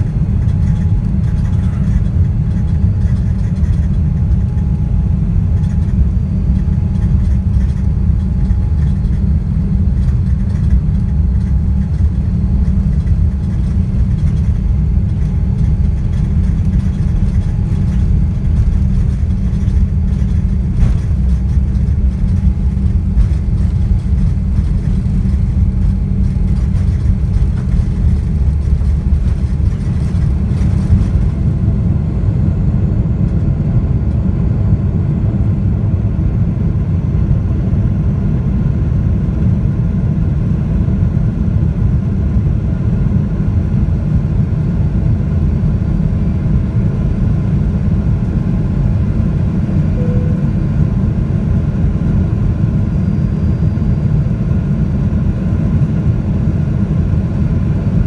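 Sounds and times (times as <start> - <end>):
jet engines from inside cabin: 0.0 - 58.0.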